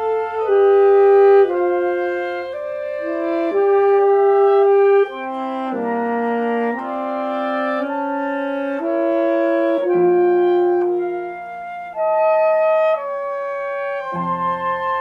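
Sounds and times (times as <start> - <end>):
clarinet: 0.0 - 15.0
flute: 0.0 - 15.0
piano: 0.0 - 15.0
saxophone: 0.0 - 15.0.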